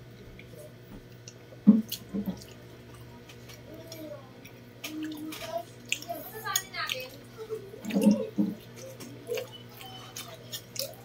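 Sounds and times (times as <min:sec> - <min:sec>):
steady low hum: 0:00.0 - 0:11.0
lip smacks and chewing: 0:00.3 - 0:11.0.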